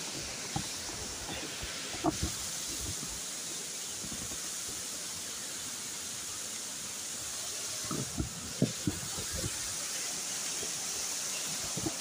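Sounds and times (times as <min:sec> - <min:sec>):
waterfall rushing hiss: 0:00.0 - 0:12.0.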